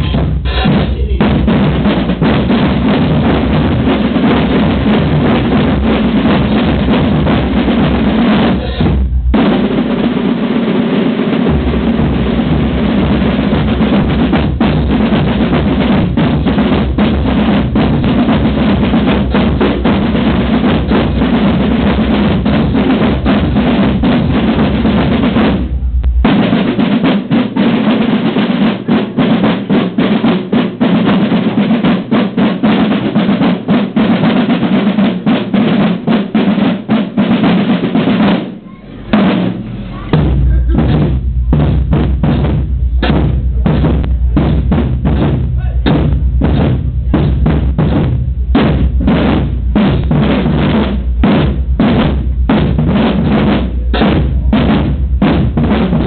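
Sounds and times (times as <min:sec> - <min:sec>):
side drums rolling: 0:00.0 - 0:56.0.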